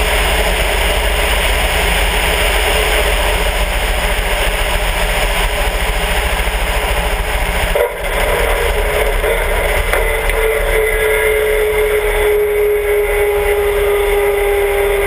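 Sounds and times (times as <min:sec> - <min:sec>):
light aircraft engine running: 0:00.0 - 0:15.0.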